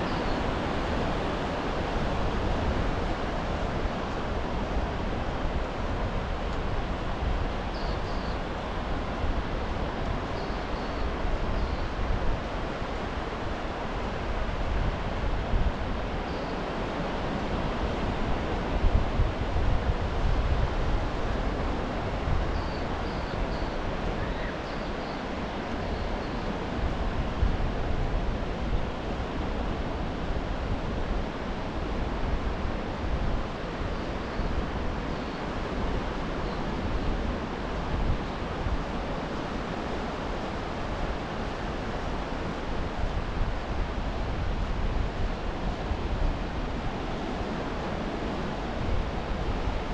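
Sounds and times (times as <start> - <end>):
wind rumbling on microphone: 0.0 - 49.9.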